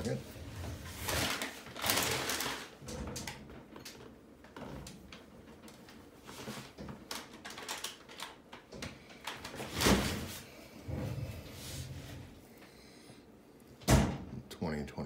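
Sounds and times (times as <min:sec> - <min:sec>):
rustling: 0:00.0 - 0:12.7.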